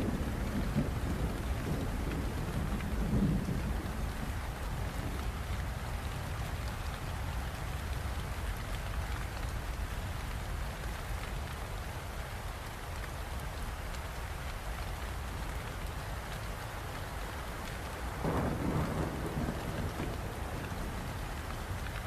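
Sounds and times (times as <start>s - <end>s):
steady rainfall: 0.0s - 22.0s.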